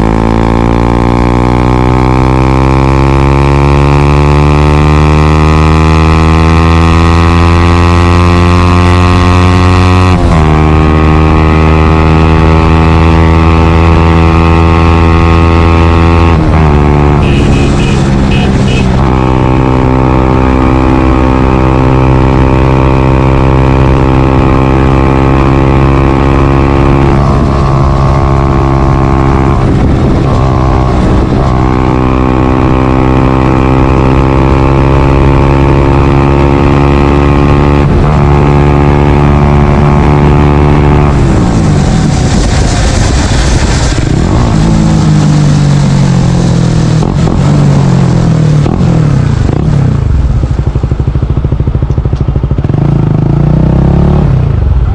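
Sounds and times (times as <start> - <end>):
motorcycle engine revving high: 0.0 - 54.9.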